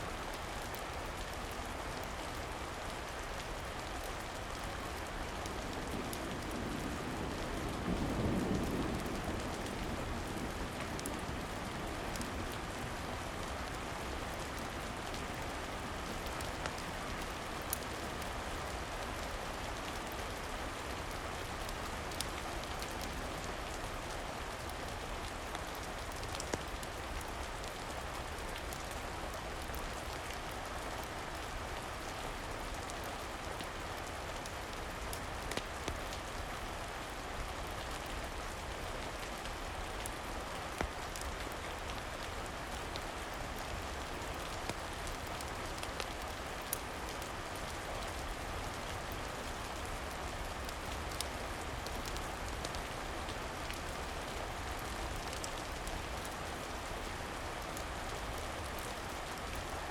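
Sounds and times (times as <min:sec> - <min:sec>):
steady rain on a surface: 0:00.0 - 0:59.9.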